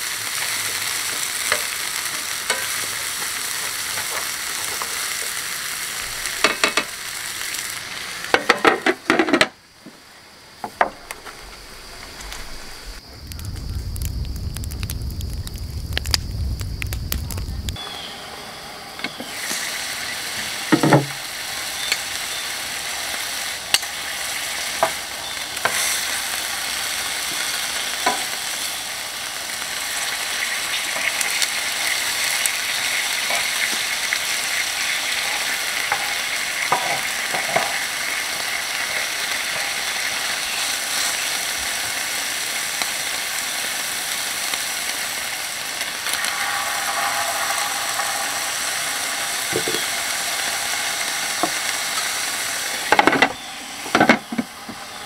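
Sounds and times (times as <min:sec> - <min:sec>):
high-pitched insect chorus: 0:00.0 - 0:55.0
sharp falling insect calls: 0:00.0 - 0:55.0.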